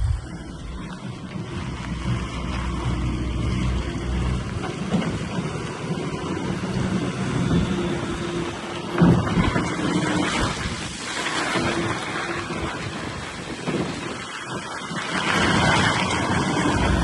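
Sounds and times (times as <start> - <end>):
diesel engine running: 0.0 - 13.4, 15.9 - 17.0.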